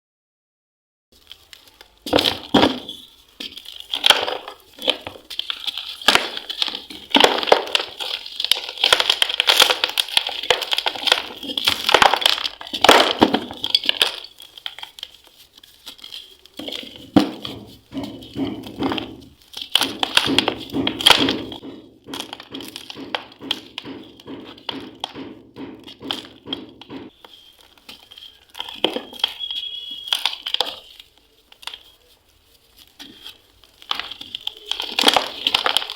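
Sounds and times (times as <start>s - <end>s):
dry cement crumbling and crunching: 1.2s - 35.9s.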